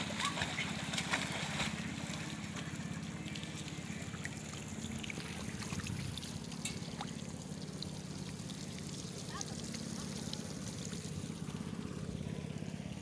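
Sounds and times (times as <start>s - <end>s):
water splash: 0.0s - 12.0s
low mechanical hum: 0.0s - 13.0s
pool water lapping and trickling: 0.0s - 13.0s.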